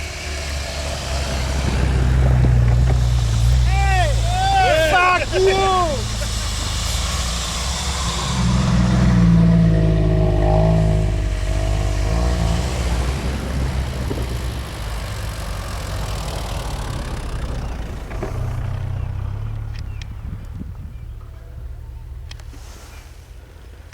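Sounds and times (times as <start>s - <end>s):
off-road vehicle engine revving: 0.0s - 23.9s.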